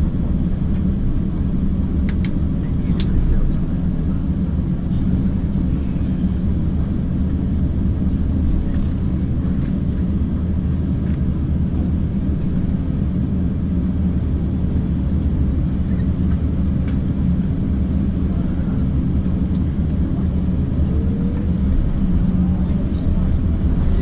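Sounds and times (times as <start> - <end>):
aircraft cabin rumble: 0.0 - 24.0.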